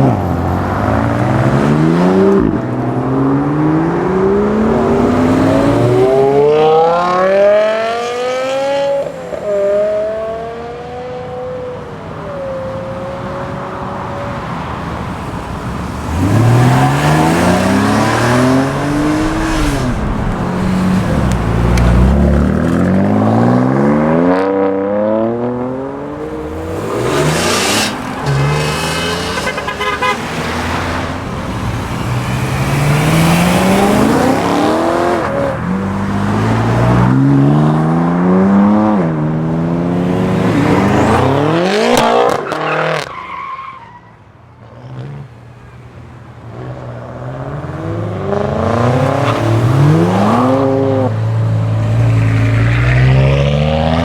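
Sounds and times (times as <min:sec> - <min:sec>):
car engines revving hard: 0:00.0 - 0:11.4, 0:15.0 - 0:43.1, 0:46.5 - 0:54.0.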